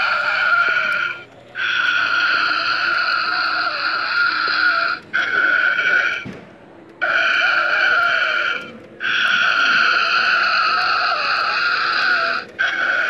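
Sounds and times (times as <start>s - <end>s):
tinny growling from small speaker: 0.0s - 6.2s, 7.0s - 13.0s.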